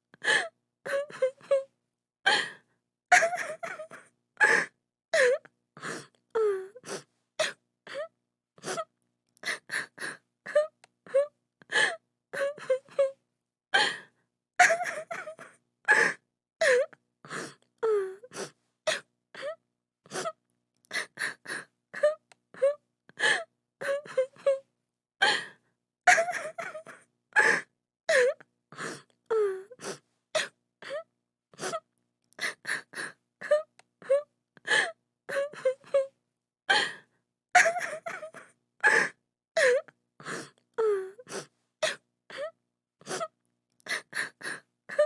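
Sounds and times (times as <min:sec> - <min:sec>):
woman sobbing and gasping: 0:00.2 - 0:01.7, 0:02.3 - 0:13.2, 0:13.8 - 0:31.8, 0:32.4 - 0:43.3.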